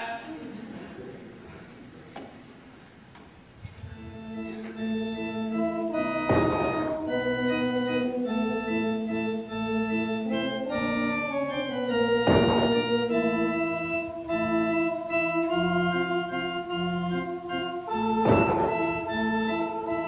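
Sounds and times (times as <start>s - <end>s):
organ music with sustained chords: 3.5s - 20.0s.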